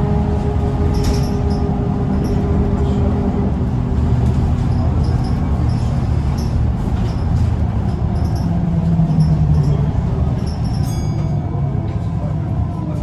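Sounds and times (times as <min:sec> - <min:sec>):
bus engine drone: 0:00.0 - 0:13.0
engine whine: 0:00.0 - 0:13.0
road noise: 0:00.0 - 0:13.0.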